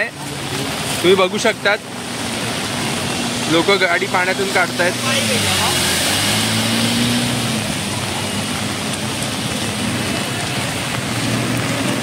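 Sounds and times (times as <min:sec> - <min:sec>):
rain: 0:00.0 - 0:12.0
traffic noise: 0:00.0 - 0:12.0.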